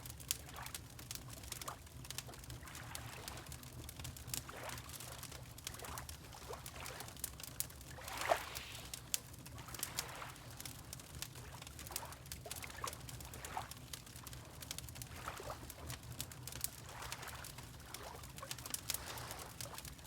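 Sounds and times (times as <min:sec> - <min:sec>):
wood fire crackling and popping: 0:00.0 - 0:08.0, 0:08.8 - 0:20.0
water lapping and sloshing: 0:00.1 - 0:20.0.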